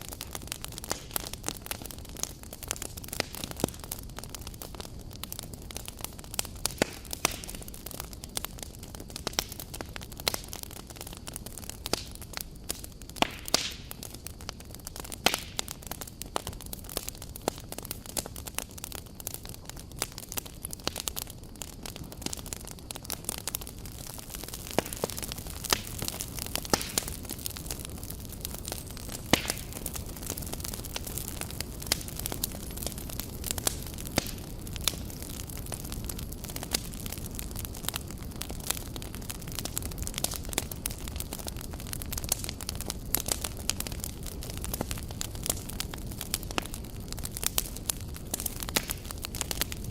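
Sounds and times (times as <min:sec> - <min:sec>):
campfire crackling and popping: 0:00.0 - 0:49.9
flames rushing: 0:00.0 - 0:49.9.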